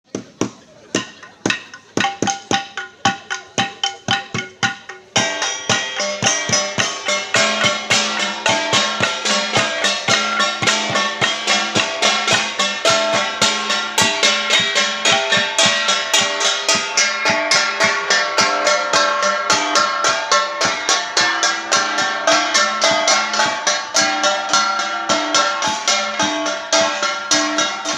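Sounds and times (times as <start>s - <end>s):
flat gongs struck rhythmically: 0.2s - 27.9s.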